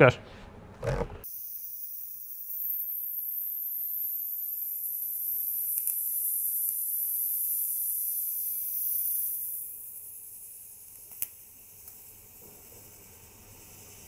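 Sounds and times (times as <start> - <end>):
welding arc hissing: 1.2 - 14.0.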